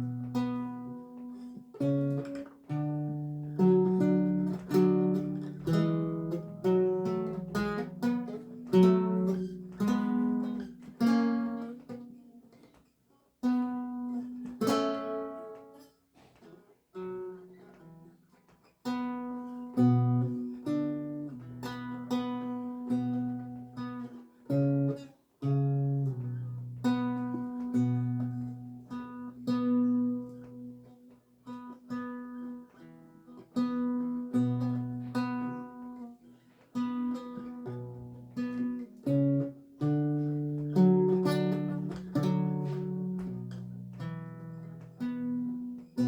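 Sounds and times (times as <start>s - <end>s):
solo lute music: 0.0s - 46.0s.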